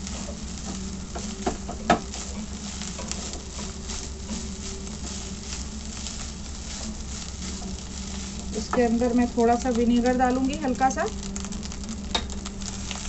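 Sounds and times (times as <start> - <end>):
food sizzling in a hot pan: 0.0 - 13.0
low hum: 0.0 - 13.0.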